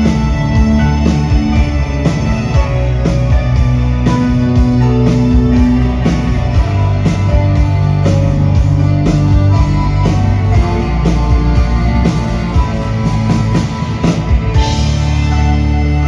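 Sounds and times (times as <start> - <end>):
steady drum beat: 0.0 - 15.3
guitar and bass: 0.0 - 16.0.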